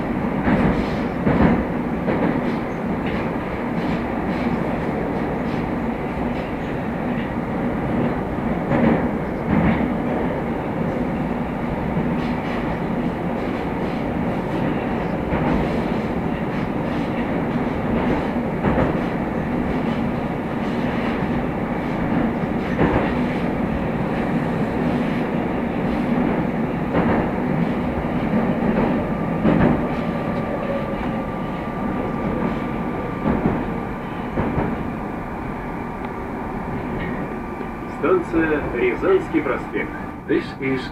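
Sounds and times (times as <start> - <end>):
metro train rumbling: 0.0 - 40.9.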